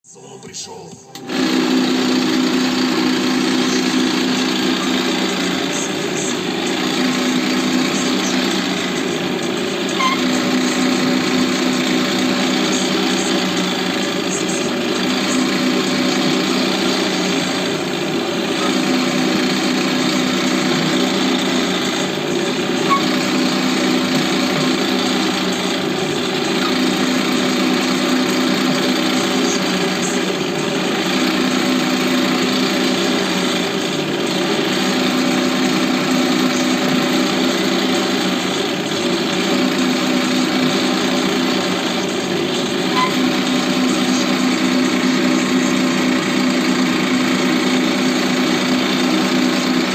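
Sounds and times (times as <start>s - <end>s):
drilling machine humming: 1.1s - 49.9s.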